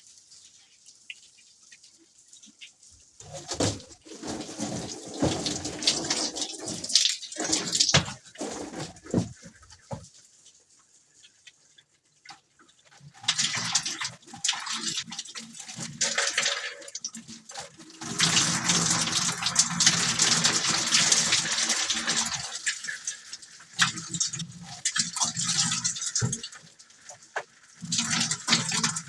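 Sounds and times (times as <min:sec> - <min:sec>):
water spraying from garden hose: 0:00.0 - 0:11.6, 0:13.0 - 0:29.0.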